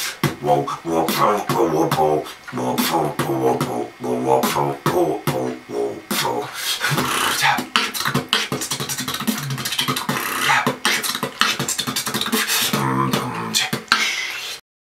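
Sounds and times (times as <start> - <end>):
man beatboxing: 0.0 - 14.6.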